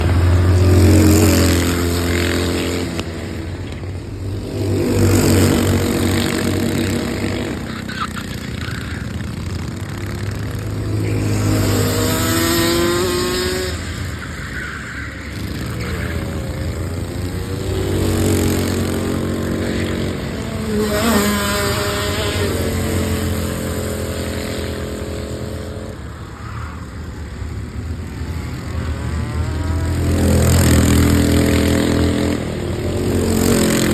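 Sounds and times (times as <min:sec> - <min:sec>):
kart engines revving: 0:00.0 - 0:33.9.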